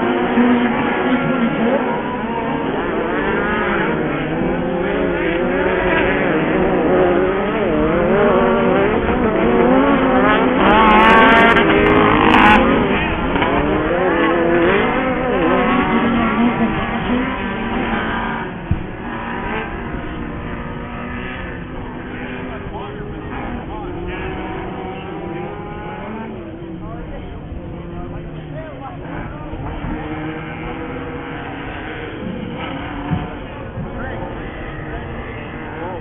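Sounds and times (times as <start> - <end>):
race engines revving: 0.0 - 36.0.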